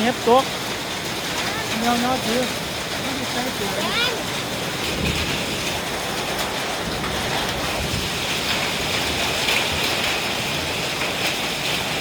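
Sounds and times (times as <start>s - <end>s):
heavy rain and hail hissing: 0.0s - 12.0s.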